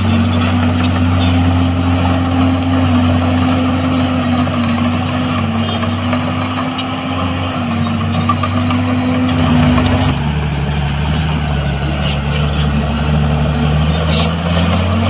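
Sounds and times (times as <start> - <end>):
heavy diesel engine under load: 0.0 - 15.0.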